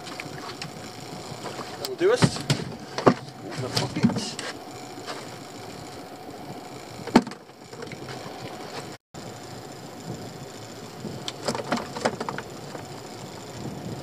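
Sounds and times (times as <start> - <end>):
steady hum at sea: 0.0 - 14.0.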